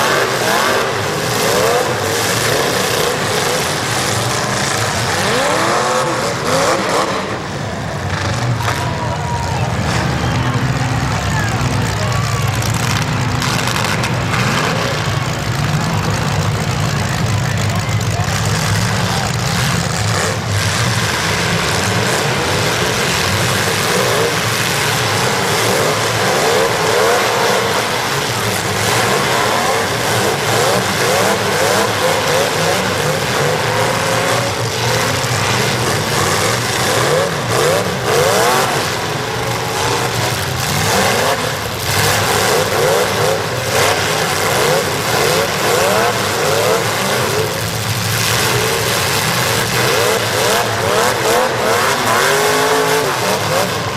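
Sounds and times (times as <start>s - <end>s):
car engines revving hard: 0.0s - 53.9s.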